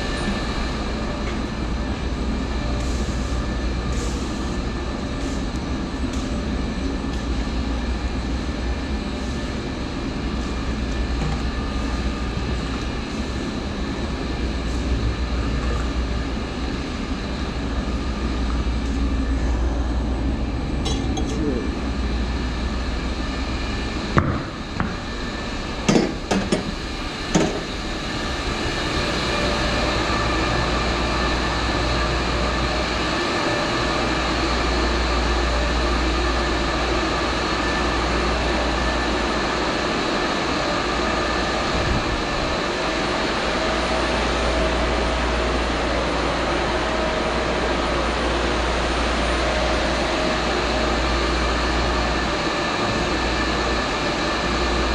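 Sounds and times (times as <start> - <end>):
machinery drone with low hum: 0.0 - 54.9.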